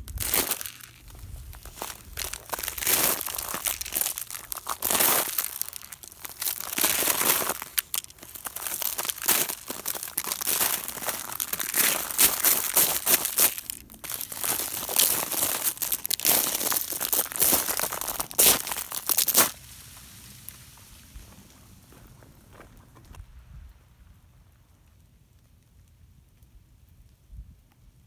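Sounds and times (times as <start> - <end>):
boots crunching on icy grass: 0.0 - 22.7.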